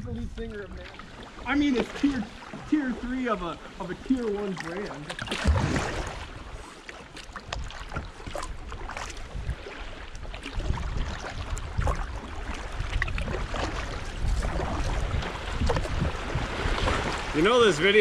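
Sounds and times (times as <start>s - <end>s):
paddles splashing in water: 0.6s - 18.0s.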